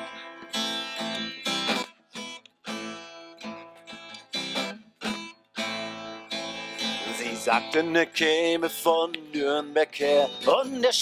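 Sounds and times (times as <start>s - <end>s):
acoustic guitar chord strokes: 0.0s - 11.0s.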